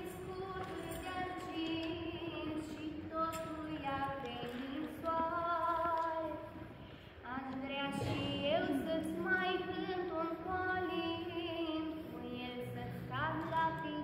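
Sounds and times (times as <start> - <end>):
women and children singing: 0.0 - 6.5, 7.2 - 14.0.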